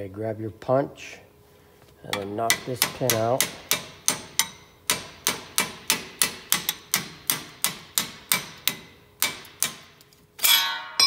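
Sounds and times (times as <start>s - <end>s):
hammer striking steel punch: 2.1s - 11.0s.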